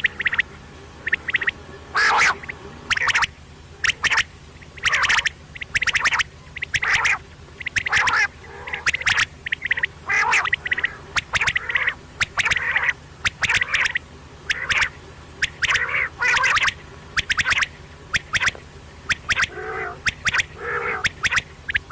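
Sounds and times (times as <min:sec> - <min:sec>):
quail calling: 0:00.0 - 0:21.9.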